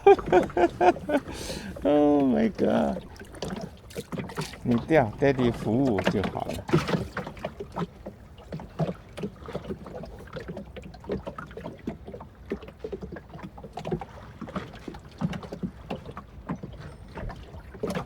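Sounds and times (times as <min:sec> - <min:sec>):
light knocks and taps on boat: 0:00.0 - 0:18.0.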